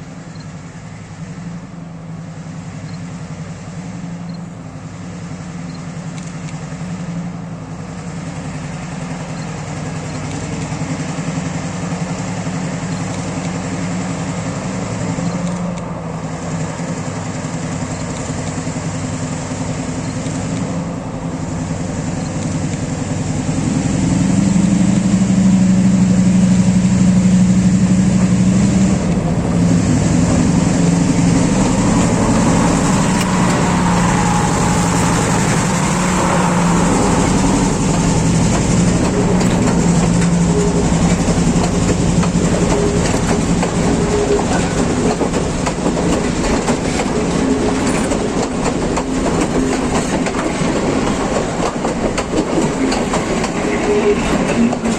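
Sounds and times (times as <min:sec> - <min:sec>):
locomotive engine running: 0:00.0 - 0:54.9.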